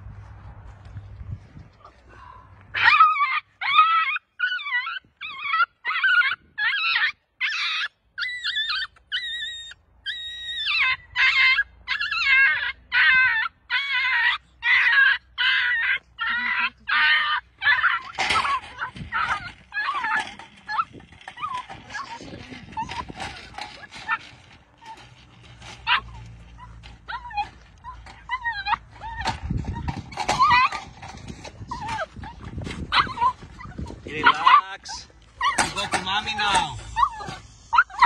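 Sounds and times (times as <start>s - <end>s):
puppy yelping: 2.8s - 38.0s.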